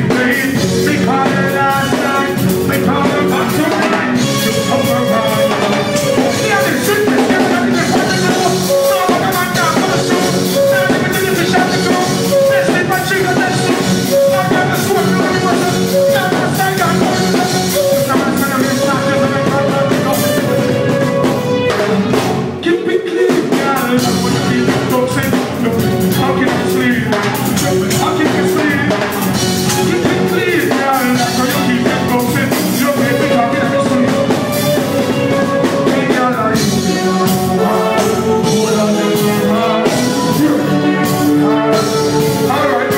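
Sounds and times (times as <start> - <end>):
live reggae band with drum kit: 0.0 - 42.9.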